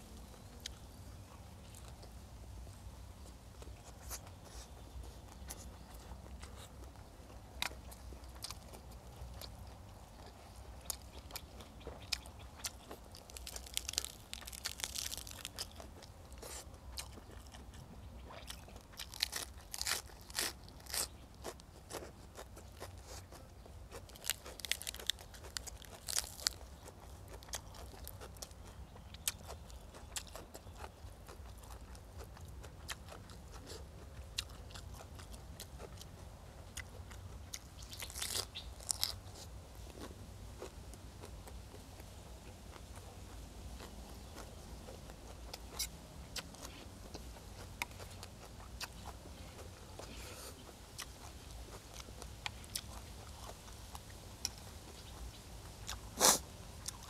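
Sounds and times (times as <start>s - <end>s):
person chewing crunchy food: 0.0s - 2.2s, 3.2s - 57.0s.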